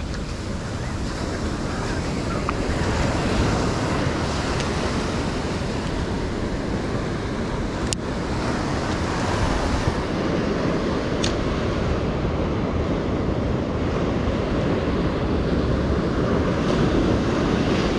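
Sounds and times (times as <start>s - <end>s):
ocean surf washing on beach: 0.0s - 17.9s
wind buffeting microphone: 0.0s - 17.9s.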